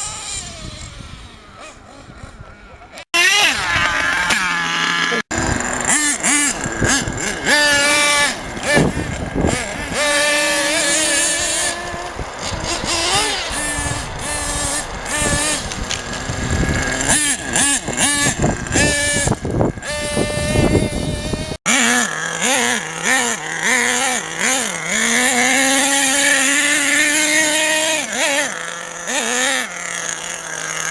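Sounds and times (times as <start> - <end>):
small nitro engine revving: 0.0 - 30.9.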